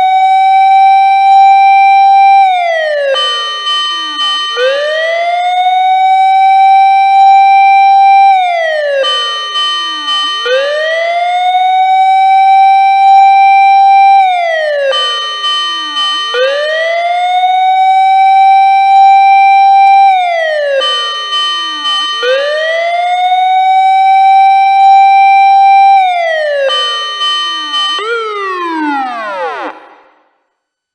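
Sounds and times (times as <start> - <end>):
siren wailing: 0.0 - 30.4.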